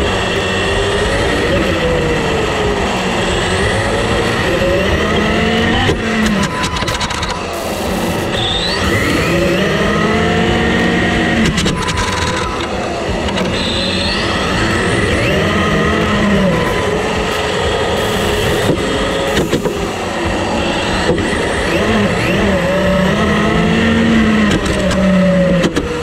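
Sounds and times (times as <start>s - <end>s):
low rushing noise: 0.0s - 26.0s
rc car motor whine: 0.0s - 26.0s.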